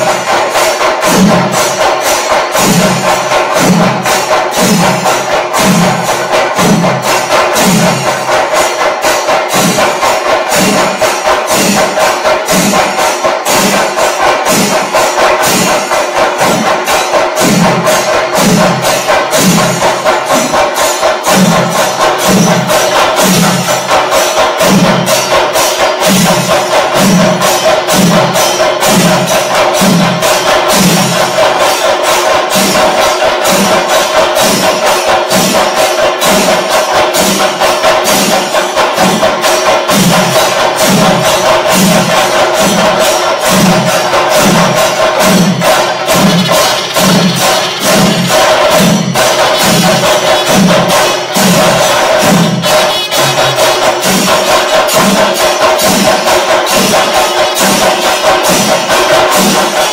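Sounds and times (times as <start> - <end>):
drum ensemble playing: 0.0 - 59.9.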